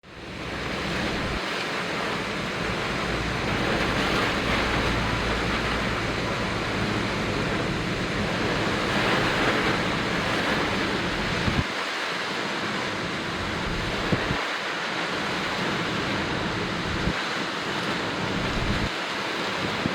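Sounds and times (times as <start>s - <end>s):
heavy surf: 0.0s - 19.9s
strong wind buffeting microphone: 0.1s - 11.8s, 12.7s - 14.4s, 15.3s - 19.9s.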